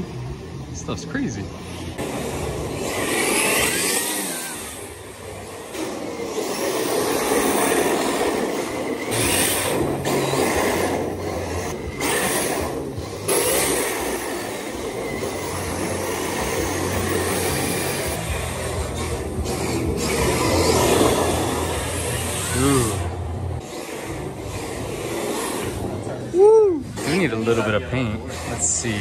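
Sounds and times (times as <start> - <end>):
rc car electric motor whining: 0.0 - 29.0
tires hissing as they slide: 1.5 - 29.0.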